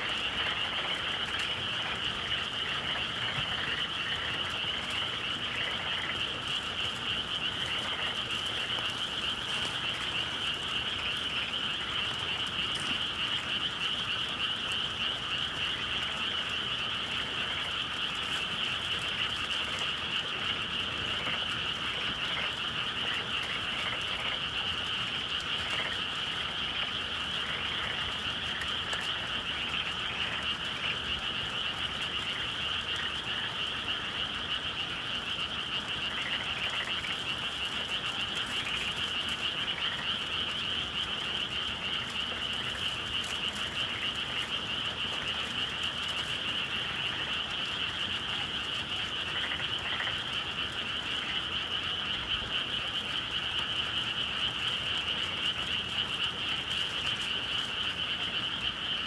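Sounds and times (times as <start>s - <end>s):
chorus of frogs trilling: 0.0s - 59.0s.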